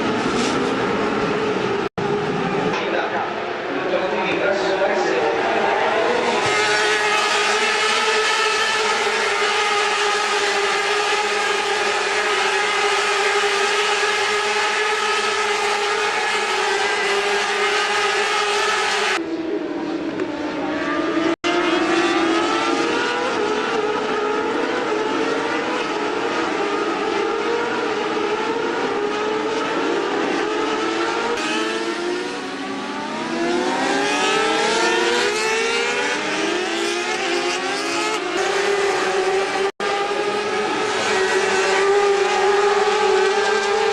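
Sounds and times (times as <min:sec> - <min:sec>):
racing motorcycle engines revving: 0:00.0 - 0:43.9.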